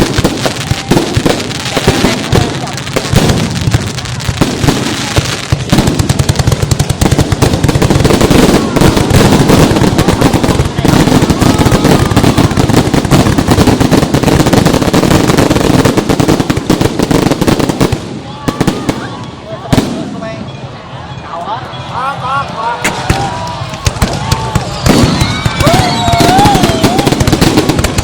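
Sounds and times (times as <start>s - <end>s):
fireworks bangs and crackles: 0.0s - 20.7s, 22.8s - 28.0s.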